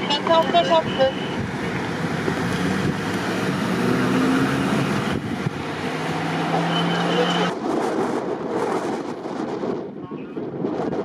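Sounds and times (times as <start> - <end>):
strong wind blowing: 0.0 - 11.0
wind buffeting microphone: 0.0 - 11.0.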